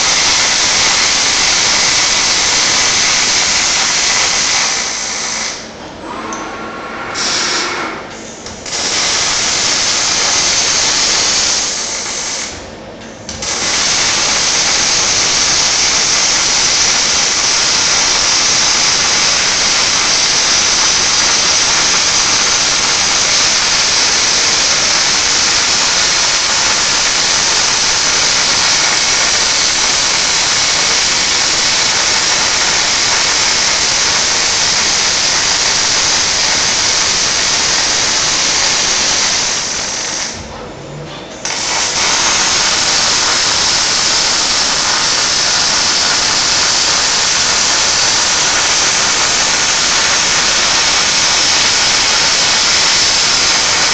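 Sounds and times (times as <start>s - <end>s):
welding arc hissing and crackling: 0.0s - 5.7s, 8.4s - 12.6s, 13.3s - 40.4s, 41.4s - 53.9s.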